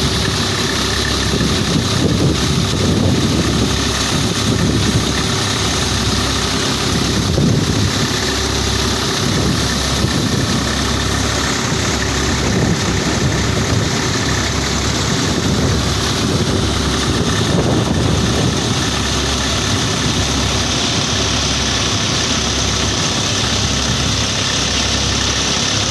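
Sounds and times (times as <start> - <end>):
tractor-powered thresher drone: 0.0 - 25.9.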